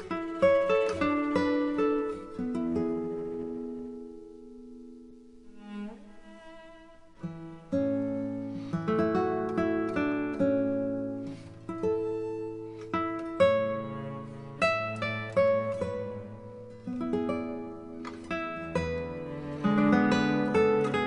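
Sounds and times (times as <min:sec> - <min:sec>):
acoustic guitar chords: 0:00.0 - 0:06.2, 0:07.2 - 0:21.0.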